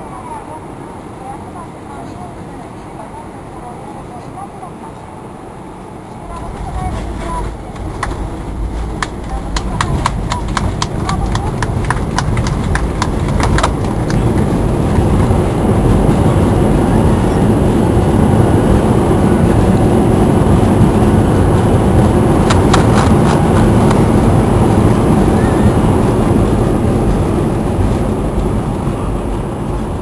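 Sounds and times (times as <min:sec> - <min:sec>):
loud aircraft cabin rumble: 0:00.0 - 0:30.0.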